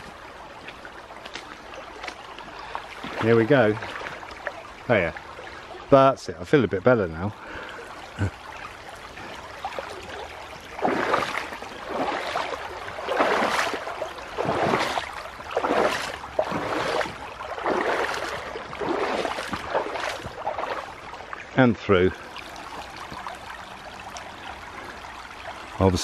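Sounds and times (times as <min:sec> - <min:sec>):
footsteps splashing in water: 0:00.0 - 0:04.8, 0:08.4 - 0:26.0
running stream: 0:00.0 - 0:26.0.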